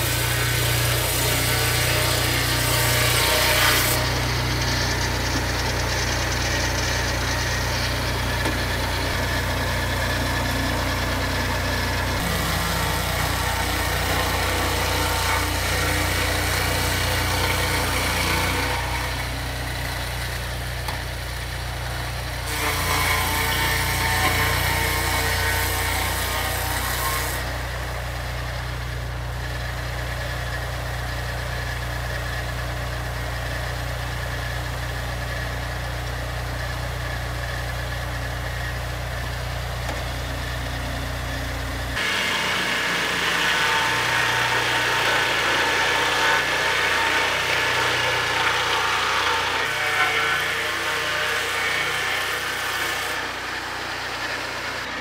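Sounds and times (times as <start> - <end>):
chainsaw mill engine running: 0.0 - 3.1, 3.8 - 22.8, 27.4 - 55.0.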